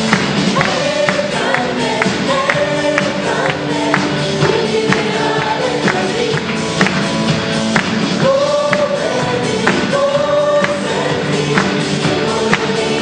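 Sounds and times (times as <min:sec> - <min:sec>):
live band accompaniment: 0:00.0 - 0:13.0
choir singing: 0:00.6 - 0:06.7, 0:08.2 - 0:13.0.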